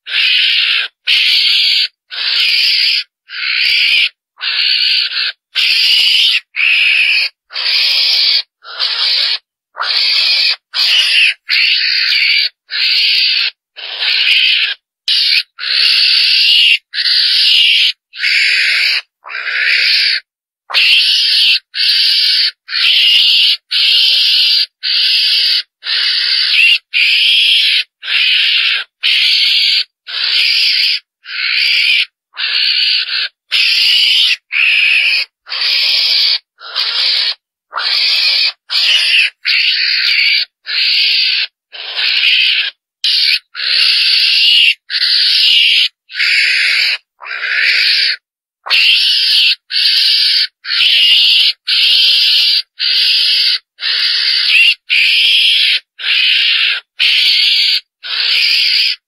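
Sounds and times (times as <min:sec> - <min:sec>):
harsh hissing animal squeal: 0:00.0 - 0:59.0.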